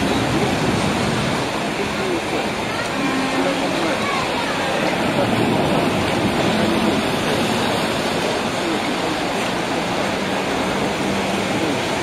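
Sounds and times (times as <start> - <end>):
boat engine drone: 0.0 - 12.0
boat traffic and churned water: 0.0 - 12.0.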